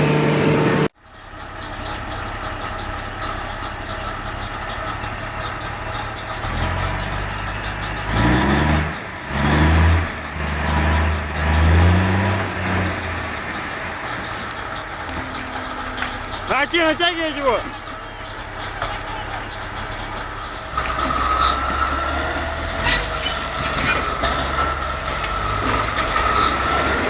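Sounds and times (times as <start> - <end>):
vehicle engine revving: 0.0 - 0.9, 4.6 - 27.0.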